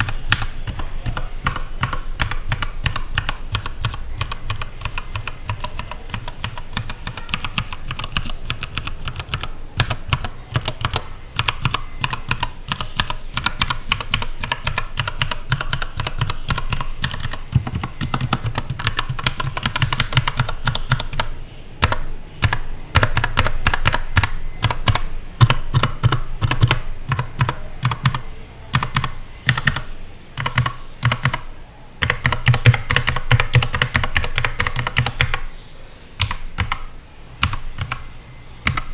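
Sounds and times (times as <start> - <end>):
mechanical keyboard typing: 0.0 - 35.5, 36.2 - 38.9.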